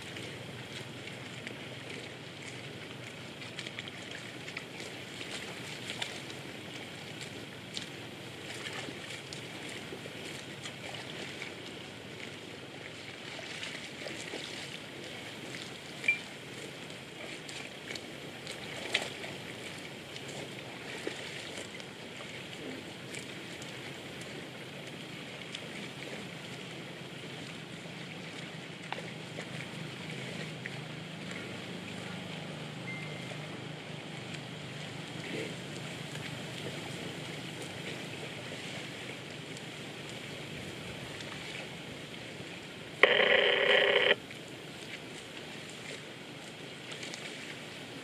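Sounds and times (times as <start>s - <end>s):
steady outdoor hiss: 0.0s - 48.0s.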